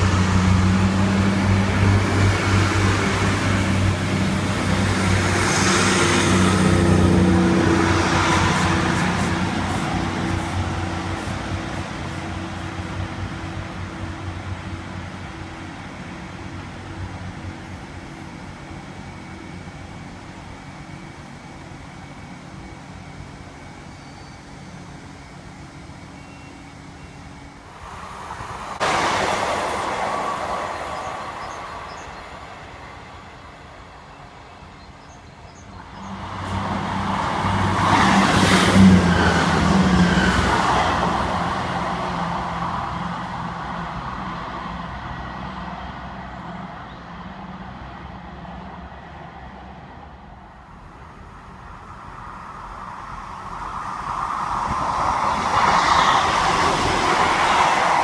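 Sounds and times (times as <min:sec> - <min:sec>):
diesel trains passing: 0:00.0 - 0:58.0.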